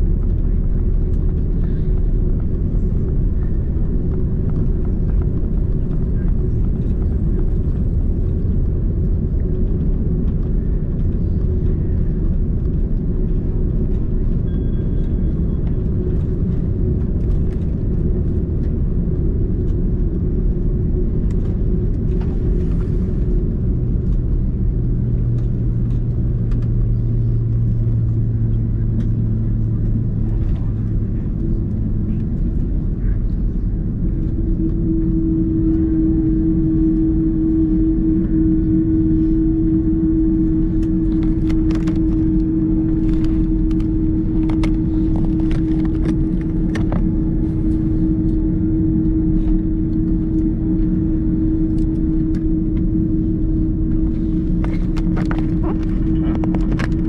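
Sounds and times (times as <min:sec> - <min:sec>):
jet engines low rumble: 0:00.0 - 0:57.0
low hum: 0:00.0 - 0:57.0.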